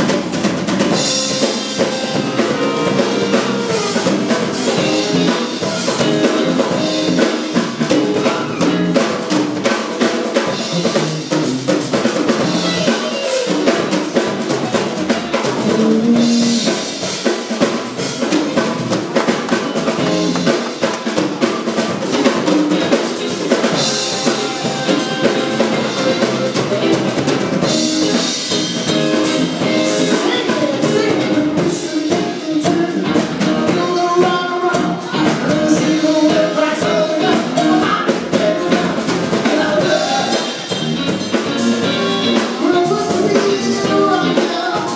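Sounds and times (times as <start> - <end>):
live band playing: 0.0 - 44.9.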